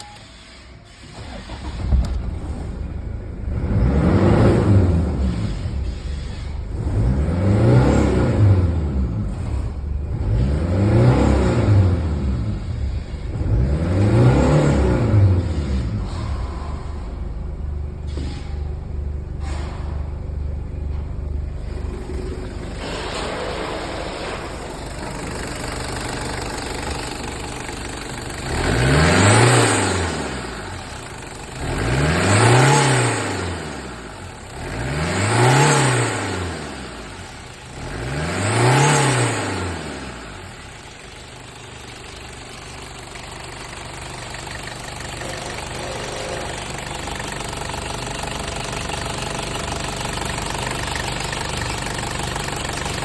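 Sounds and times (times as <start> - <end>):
diesel engine idling and revving: 0.0 - 53.0.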